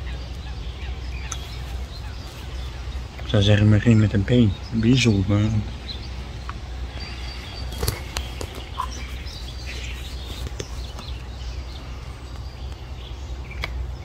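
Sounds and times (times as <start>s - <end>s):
birds chirping faintly: 0.0s - 14.0s
steady low rumble: 0.0s - 14.0s.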